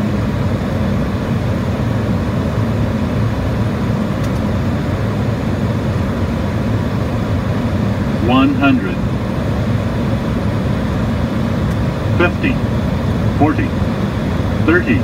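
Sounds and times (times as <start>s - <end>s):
airflow and engine rumble: 0.0s - 15.0s.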